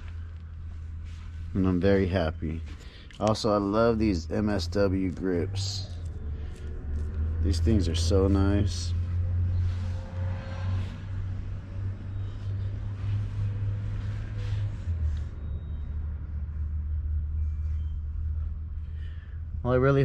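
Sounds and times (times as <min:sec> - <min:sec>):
low rumble: 0:00.0 - 0:19.7.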